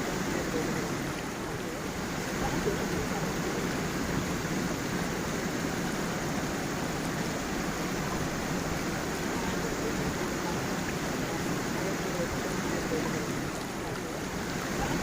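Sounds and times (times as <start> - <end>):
waterfall and stream flowing: 0.0 - 15.0.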